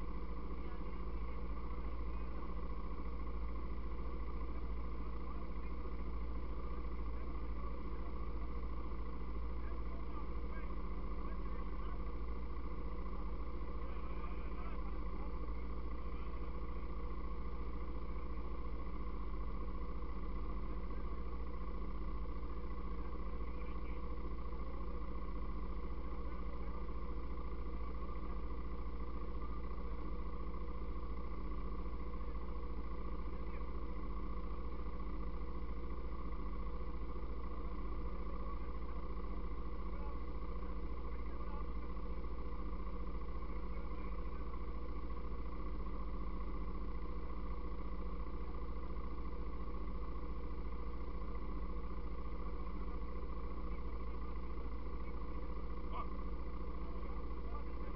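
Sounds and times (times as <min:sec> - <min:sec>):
engine idling: 0:00.0 - 0:57.9.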